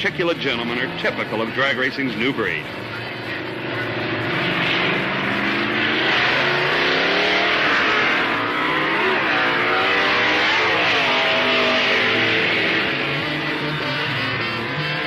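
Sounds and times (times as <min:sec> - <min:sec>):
drag car engines at full throttle: 0:00.0 - 0:15.0.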